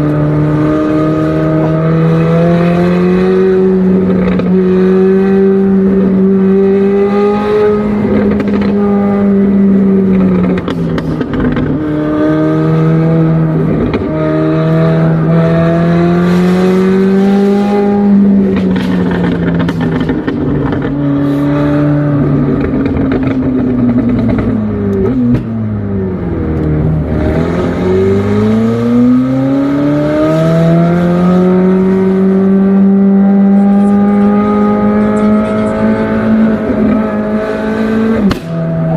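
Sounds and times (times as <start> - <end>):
car engine revving with gear changes: 0.0 - 38.9.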